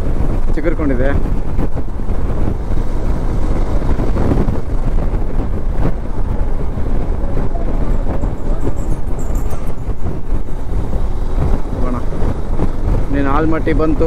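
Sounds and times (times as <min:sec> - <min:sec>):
motorcycle engine and road noise: 0:00.0 - 0:14.0
wind rumble on microphone: 0:00.0 - 0:14.0.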